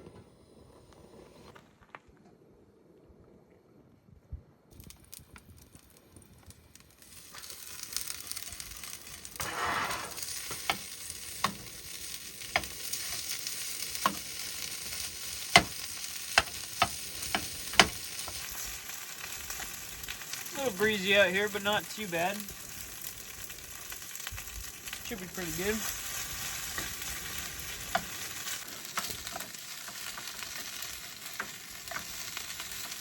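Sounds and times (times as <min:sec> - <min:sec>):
pasta sizzling in a pan: 0:04.7 - 0:33.0.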